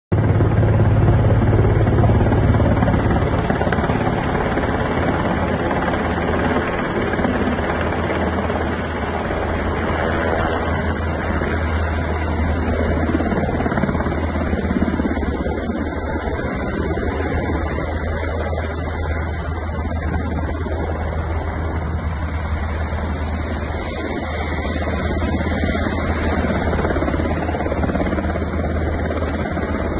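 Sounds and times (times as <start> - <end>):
helicopter rotors and engines: 0.1 - 29.9.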